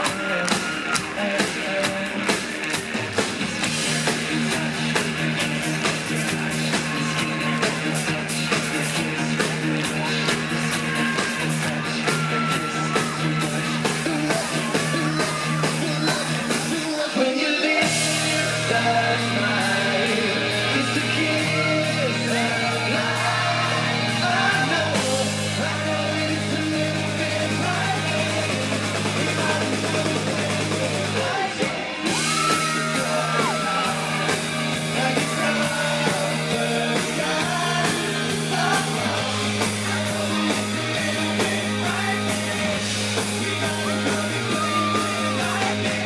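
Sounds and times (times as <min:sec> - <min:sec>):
pop band playing live: 0:00.0 - 0:46.0
person singing lead: 0:06.2 - 0:46.0.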